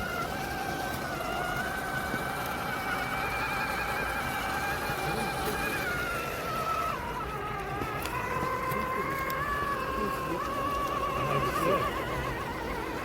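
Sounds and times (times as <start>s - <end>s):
rc truck motor whining: 0.0s - 13.0s.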